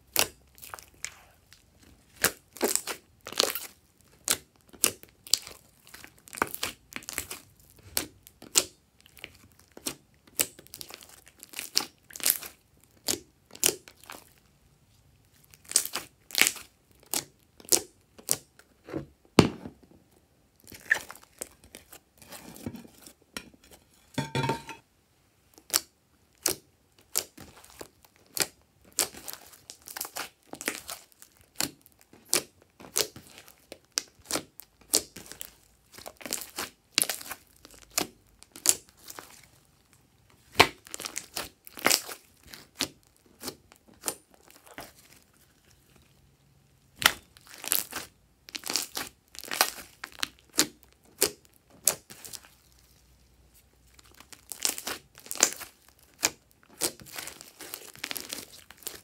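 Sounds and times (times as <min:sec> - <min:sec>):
hands squishing slime: 0:00.0 - 0:14.4, 0:15.3 - 0:18.5, 0:20.6 - 0:22.0, 0:25.6 - 0:46.2, 0:46.9 - 0:59.0
slime squelch: 0:00.0 - 0:18.9, 0:20.6 - 0:23.2, 0:25.6 - 0:59.0.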